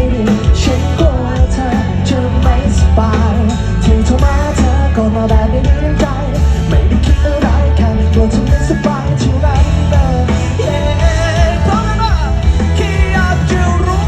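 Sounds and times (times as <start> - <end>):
loud bass: 0.0 - 14.0
person singing: 0.0 - 14.0
pop-rock band playing live: 0.0 - 14.0.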